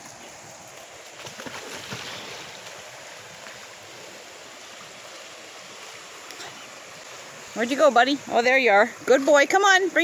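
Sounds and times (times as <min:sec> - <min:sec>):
creek water rushing: 0:00.0 - 0:10.0
water splashes: 0:00.0 - 0:10.0.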